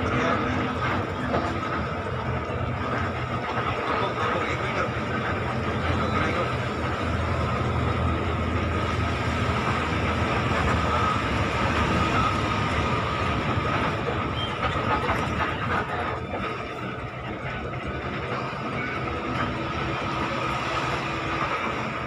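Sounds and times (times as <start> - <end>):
bus engine and road drone: 0.0 - 22.0.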